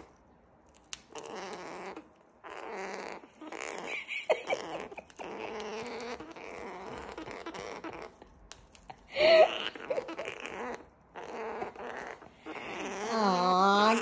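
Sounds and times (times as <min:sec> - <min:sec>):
cockatoo growling: 0:01.1 - 0:08.2, 0:09.2 - 0:14.0.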